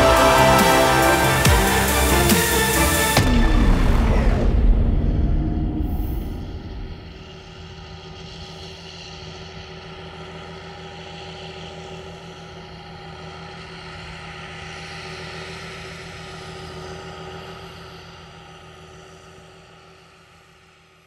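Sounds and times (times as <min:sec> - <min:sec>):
diesel farm machinery running: 0:00.0 - 0:20.1.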